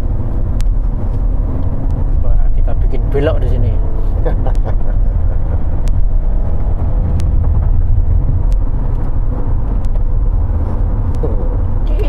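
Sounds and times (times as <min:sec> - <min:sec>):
car cabin low rumble: 0:00.0 - 0:12.0.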